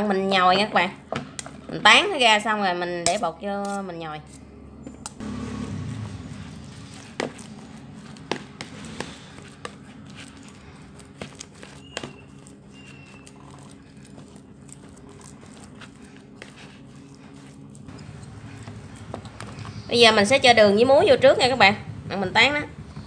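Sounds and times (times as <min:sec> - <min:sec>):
spoon mashing yam: 0:01.4 - 0:20.4.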